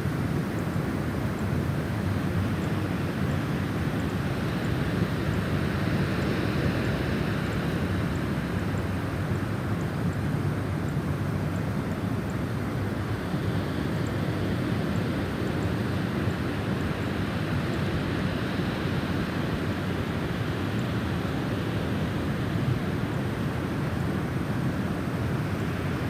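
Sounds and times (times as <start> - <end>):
snowstorm wind blowing: 0.0 - 26.0.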